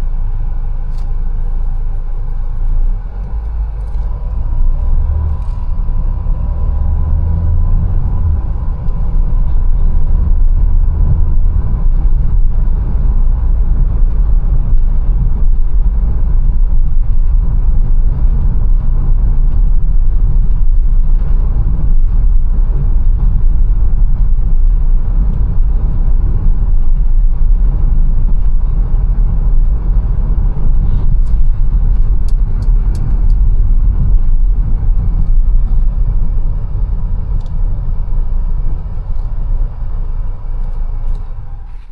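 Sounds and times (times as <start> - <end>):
engine and tyre rumble: 0.0 - 41.9.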